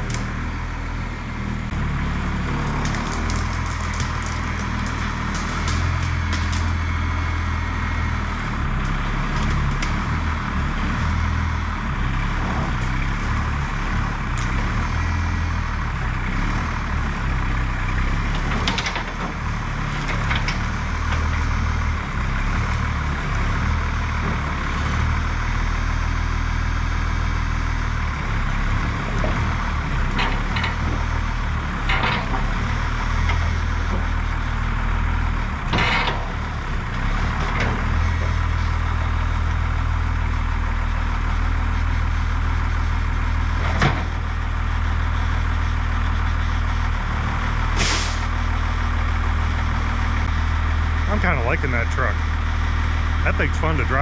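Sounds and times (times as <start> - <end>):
diesel truck engine humming: 0.0 - 54.0.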